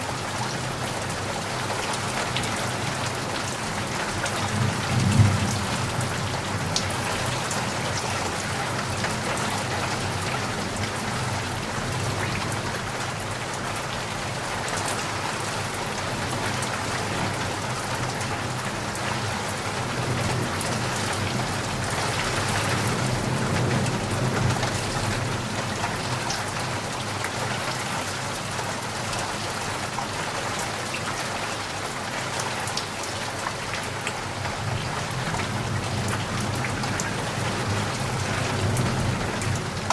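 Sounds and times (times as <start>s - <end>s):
dense rain falling: 0.0s - 39.9s.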